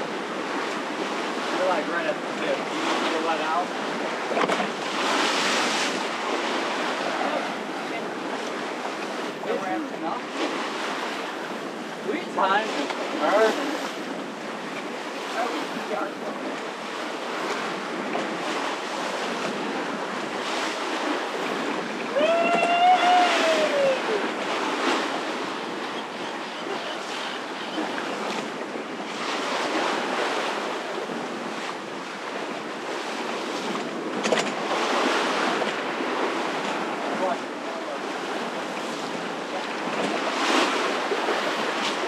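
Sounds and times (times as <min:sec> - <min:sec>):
water splashing along a hull: 0:00.0 - 0:42.0.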